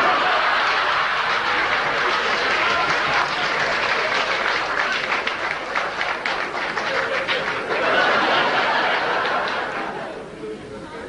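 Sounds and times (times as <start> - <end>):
audience laughing: 0.0 - 5.2, 6.5 - 10.4
audience clapping: 0.0 - 10.0.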